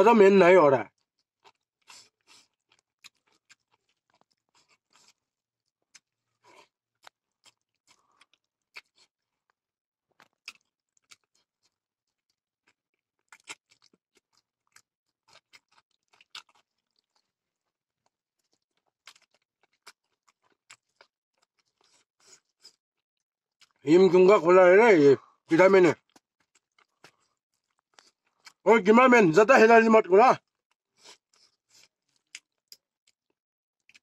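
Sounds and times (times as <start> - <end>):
person chewing: 0.9 - 22.8, 23.6 - 23.8, 26.0 - 28.6, 30.4 - 34.0.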